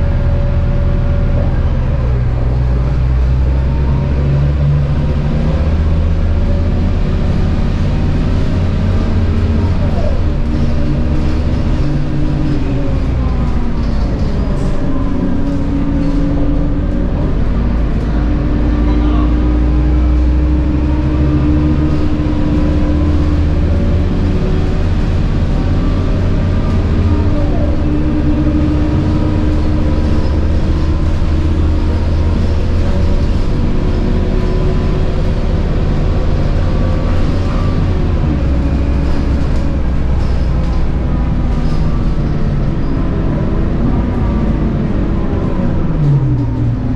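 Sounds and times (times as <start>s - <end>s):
bus diesel engine rumbling: 0.0s - 46.9s.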